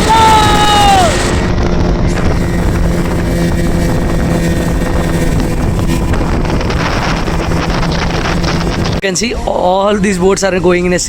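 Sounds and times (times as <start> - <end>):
speedboat engine running: 0.0 - 11.0
wind noise on microphone: 0.0 - 11.0.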